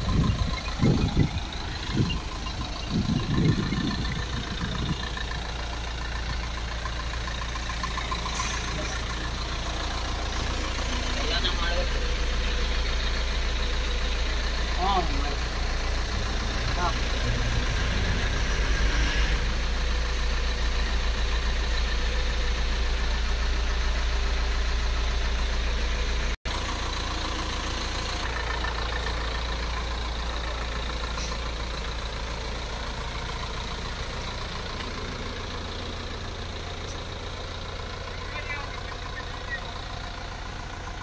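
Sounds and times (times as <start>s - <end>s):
bus engine idling: 0.0s - 41.0s.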